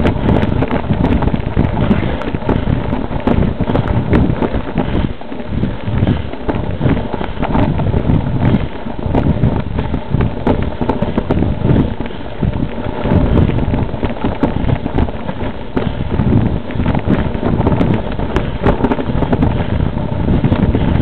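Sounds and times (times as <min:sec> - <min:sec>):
bike rattling over stones: 0:00.0 - 0:21.0
wind noise on microphone: 0:00.0 - 0:21.0.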